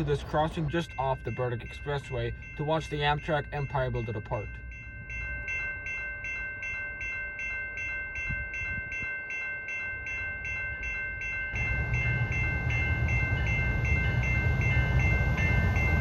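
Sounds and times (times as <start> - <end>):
crossing signal bell ringing: 0.0 - 16.0.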